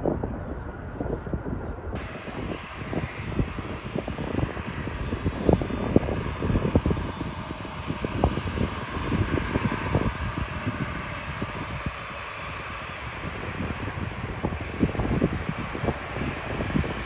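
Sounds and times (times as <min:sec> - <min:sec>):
jet engine rush: 0:00.0 - 0:17.0
wind buffeting microphone: 0:00.0 - 0:17.0.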